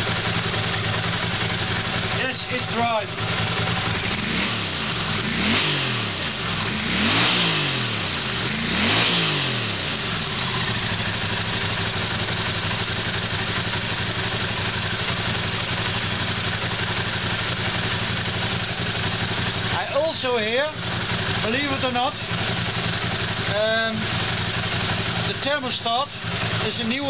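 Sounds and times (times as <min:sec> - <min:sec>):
motorcycle engine revving and idling: 0:00.0 - 0:27.0.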